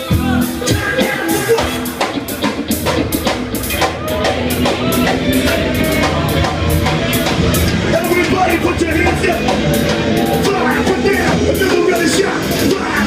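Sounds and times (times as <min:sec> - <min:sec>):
rock music with driving drums: 0:00.0 - 0:13.0.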